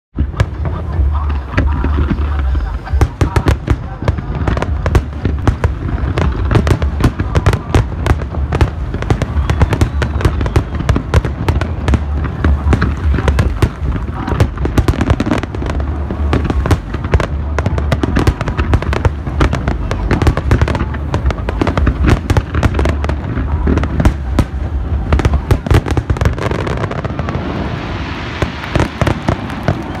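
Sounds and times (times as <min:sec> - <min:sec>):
deep steady rumble: 0:00.1 - 0:30.0
fireworks bursting with sharp bangs: 0:00.2 - 0:30.0.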